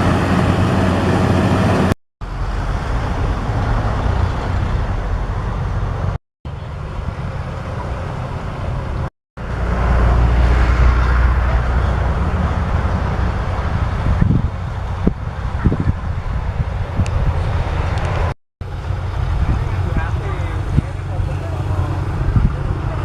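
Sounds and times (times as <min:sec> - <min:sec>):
combine harvester engine drone: 0:00.0 - 0:23.0.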